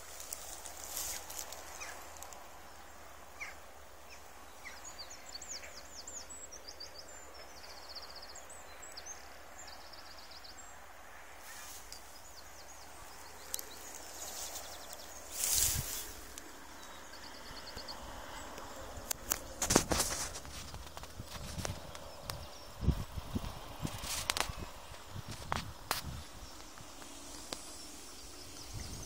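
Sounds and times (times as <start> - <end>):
songbird singing trills: 0.0 - 19.6, 20.6 - 29.0
faint outdoor hiss: 0.0 - 29.0.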